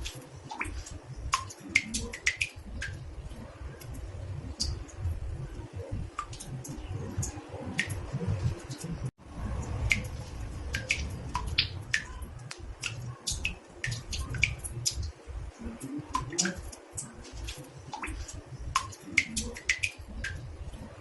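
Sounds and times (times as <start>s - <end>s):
water drops plinking in bathtub: 0.0s - 8.8s, 9.5s - 21.0s.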